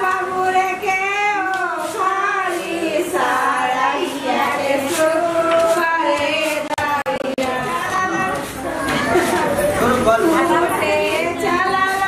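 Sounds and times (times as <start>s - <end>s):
high voice singing: 0.0s - 12.0s.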